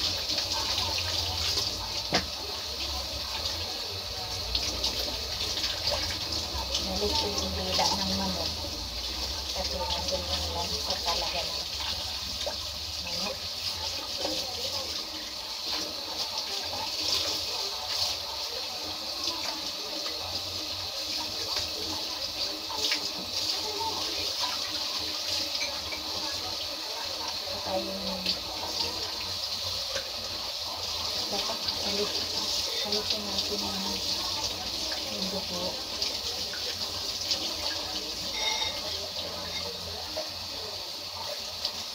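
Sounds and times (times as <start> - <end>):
faucet running into sink: 0.0 - 41.9
water splashing off meat: 0.0 - 41.9.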